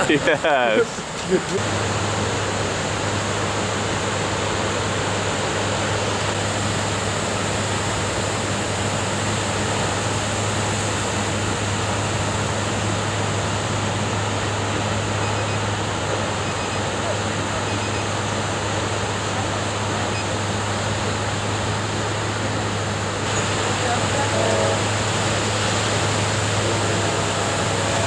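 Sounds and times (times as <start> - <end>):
ocean surf breaking: 0.0 - 28.0
steady low hum: 0.0 - 28.0.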